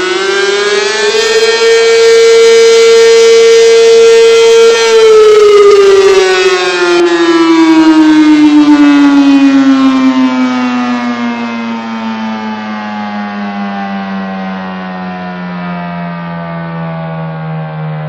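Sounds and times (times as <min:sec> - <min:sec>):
siren winding down: 0:00.0 - 0:18.0.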